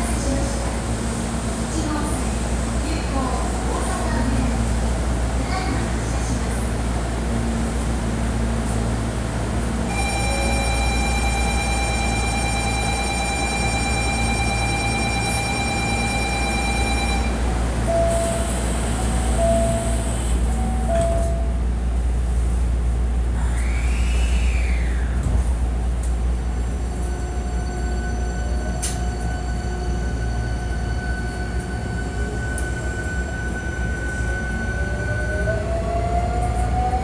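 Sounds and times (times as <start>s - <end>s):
electric train running rumble: 0.0s - 37.0s.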